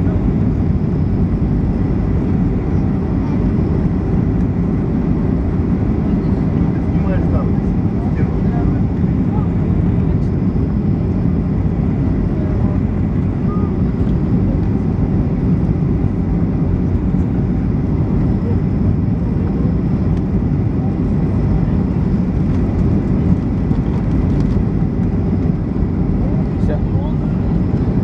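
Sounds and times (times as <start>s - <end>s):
jet engines and airflow rushing: 0.0s - 28.0s.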